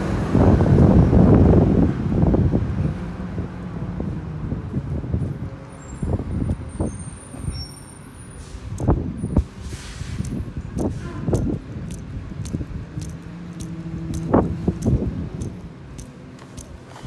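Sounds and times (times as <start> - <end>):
wind on microphone: 0.0 - 7.6, 8.4 - 16.7
road traffic rumble: 0.0 - 17.0.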